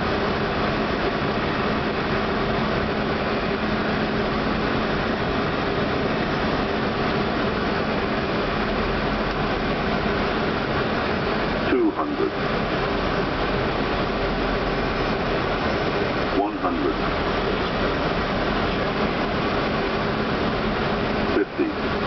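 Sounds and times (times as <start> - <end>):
airflow and engine rush: 0.0 - 22.0.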